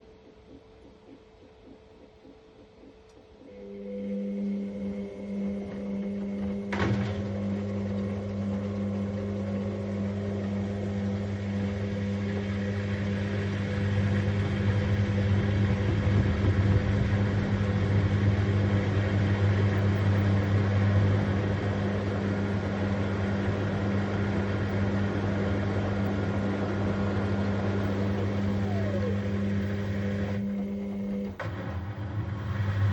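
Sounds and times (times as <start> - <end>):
washing machine hum: 0.0 - 32.9.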